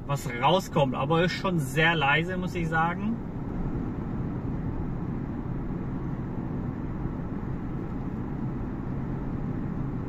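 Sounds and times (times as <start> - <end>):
road and wind noise in car: 0.0 - 10.0.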